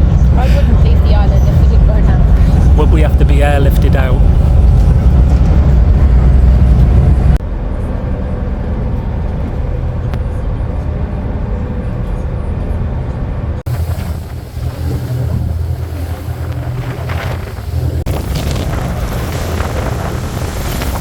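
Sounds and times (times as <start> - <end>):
boat engine running: 0.0 - 21.0
wind buffeting microphone: 0.0 - 21.0.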